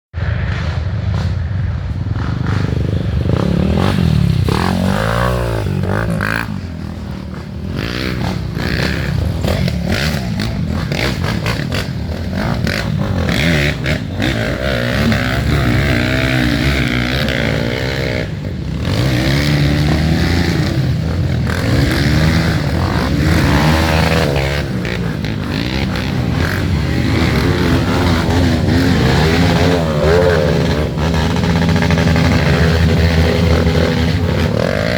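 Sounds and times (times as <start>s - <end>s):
trail motorcycles revving: 0.2s - 34.9s.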